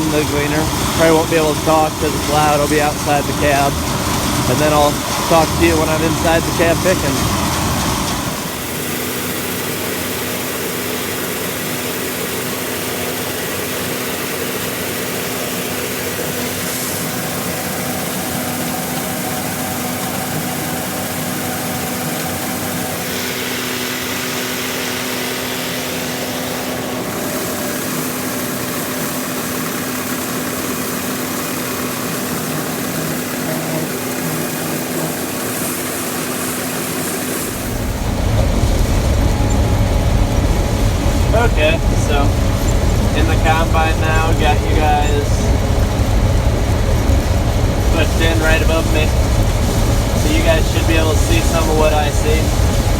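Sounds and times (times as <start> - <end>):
combine harvester machinery drone: 0.0 - 52.9.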